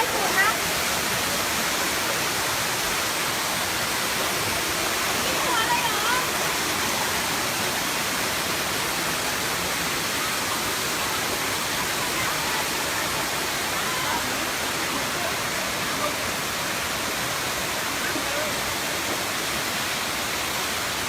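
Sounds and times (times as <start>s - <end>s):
waterfall roar: 0.0s - 21.0s.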